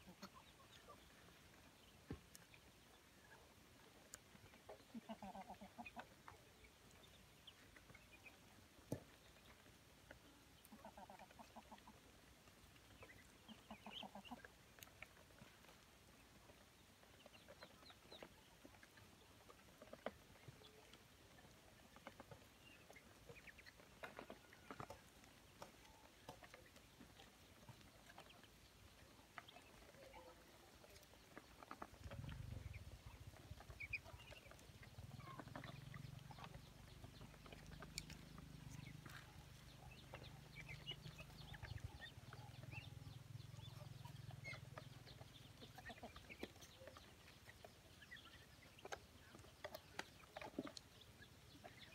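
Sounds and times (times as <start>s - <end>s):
ducklings peeping: 0.0s - 51.9s.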